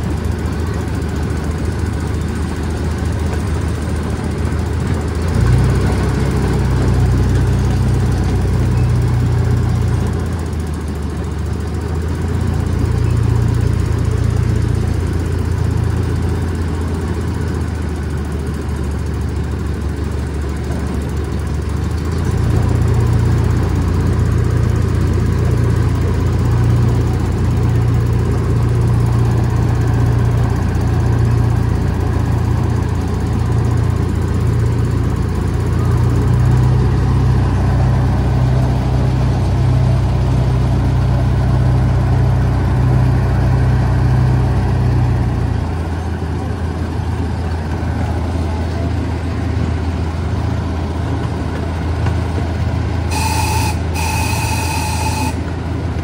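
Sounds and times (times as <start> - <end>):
miniature train engine droning: 0.0 - 56.0.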